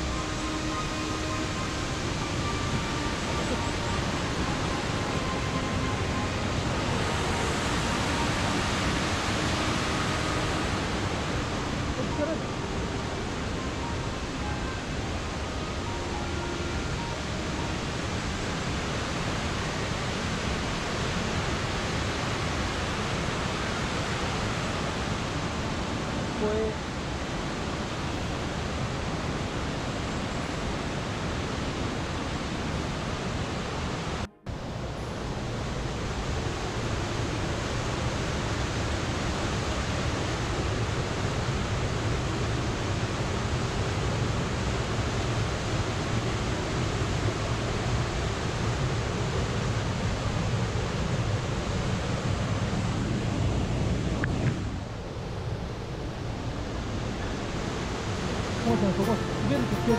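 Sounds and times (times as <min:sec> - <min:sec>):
stream rapids rushing: 0:00.0 - 0:55.6, 0:56.5 - 0:59.9.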